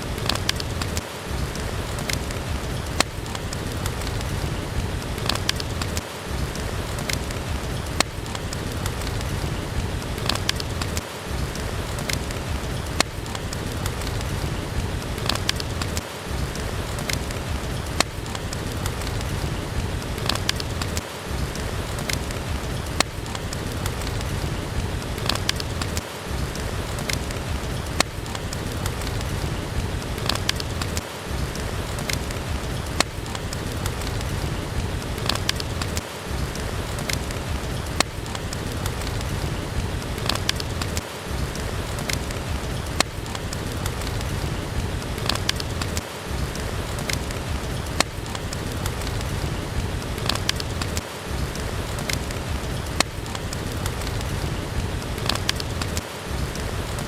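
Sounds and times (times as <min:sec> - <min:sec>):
heavy rain: 0:00.0 - 0:57.0
wood fire crackling: 0:00.0 - 0:57.0.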